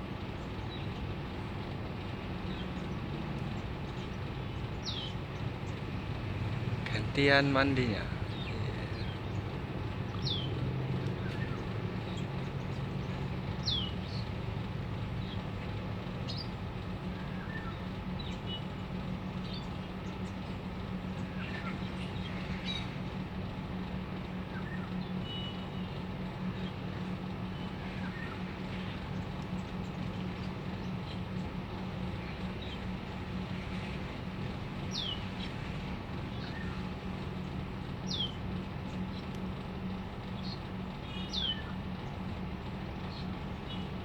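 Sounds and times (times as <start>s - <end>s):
steady low hum: 0.0s - 44.0s
small birds chirping: 0.1s - 44.0s.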